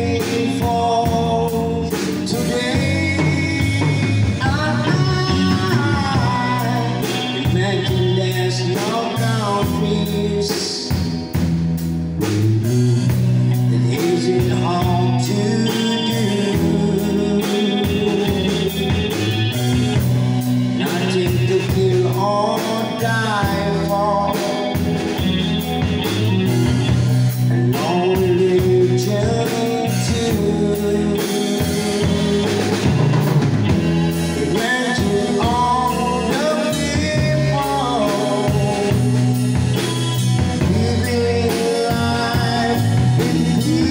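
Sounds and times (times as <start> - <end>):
man singing into a microphone: 0.0 - 11.4, 13.5 - 20.0, 20.6 - 25.6, 27.5 - 33.3, 34.2 - 43.9
drum kit: 0.0 - 43.9
electric bass: 0.0 - 43.9
electric guitar: 0.0 - 43.9.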